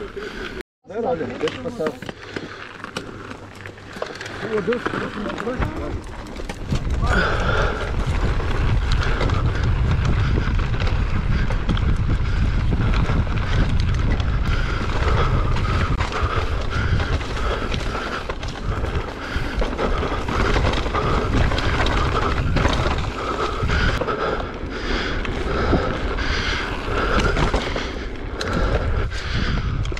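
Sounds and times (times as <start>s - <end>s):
tyres on loose dirt: 0.1s - 29.9s
bike rattling over bumps: 1.3s - 29.9s
wind rushing over microphone: 5.6s - 29.9s.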